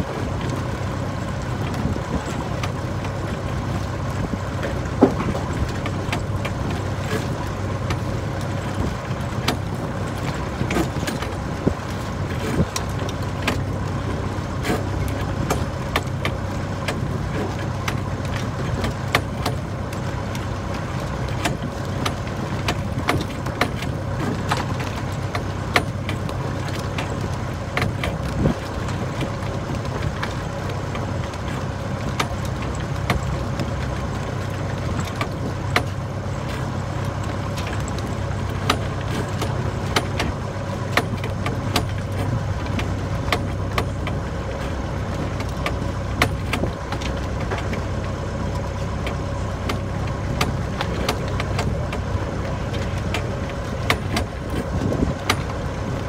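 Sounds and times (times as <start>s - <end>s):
boat engine humming: 0.0s - 56.0s
light clicks and knocks: 1.6s - 14.0s, 14.6s - 56.0s.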